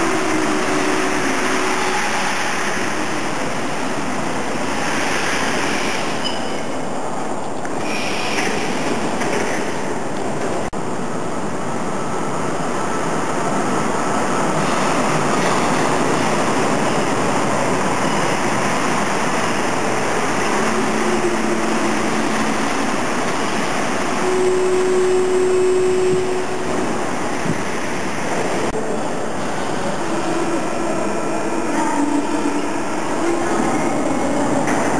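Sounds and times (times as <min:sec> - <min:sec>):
train rushing rumble: 0:00.0 - 0:34.9.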